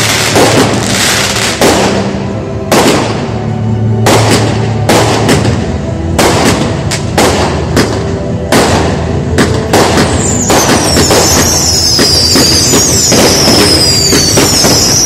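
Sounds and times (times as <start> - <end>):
fireworks bangs echoing: 0.0 - 15.0.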